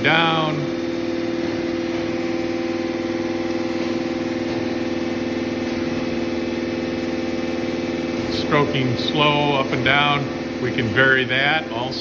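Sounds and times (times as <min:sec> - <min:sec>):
grinder humming: 0:00.0 - 0:12.0.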